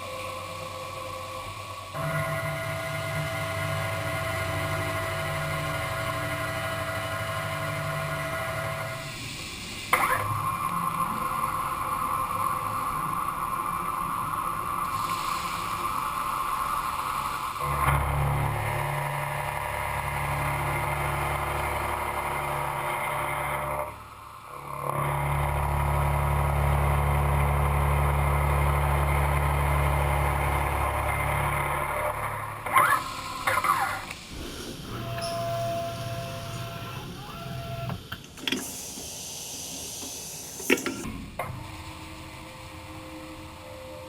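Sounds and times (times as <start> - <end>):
machine humming and cutting: 0.4 - 9.3, 17.6 - 44.0.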